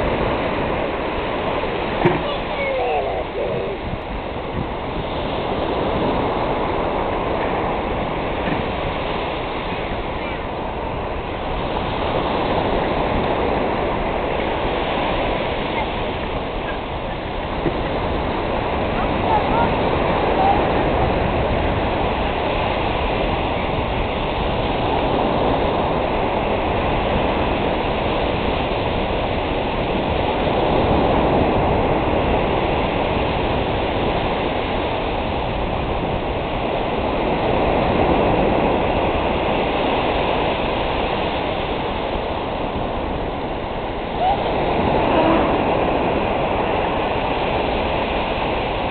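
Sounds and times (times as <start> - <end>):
ocean surf breaking: 0.0 - 48.9.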